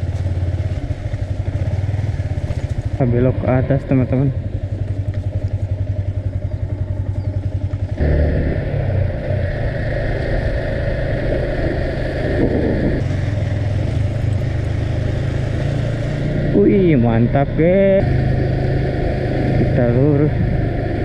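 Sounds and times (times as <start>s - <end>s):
motorcycle engine: 0.0s - 21.0s
wind and road noise: 0.0s - 21.0s.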